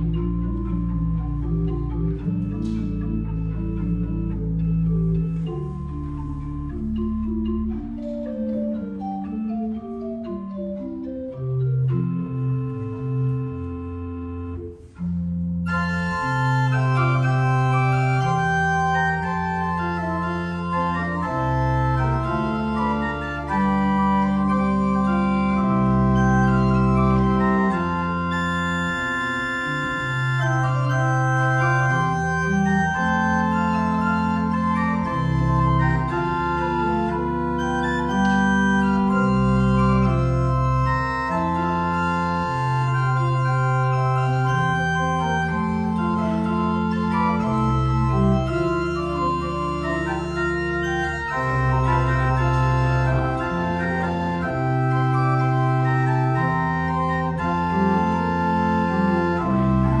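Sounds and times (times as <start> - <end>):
pipe organ playing chords: 0.0 - 60.0.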